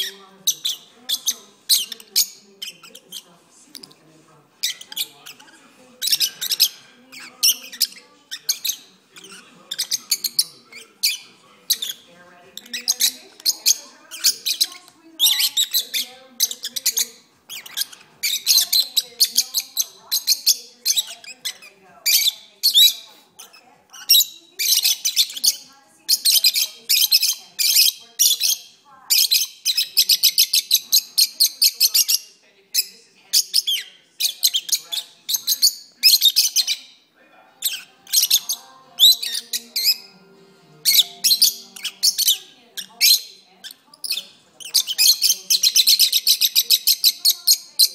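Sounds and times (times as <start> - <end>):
lovebirds chattering and chirping: 0.0 - 47.9.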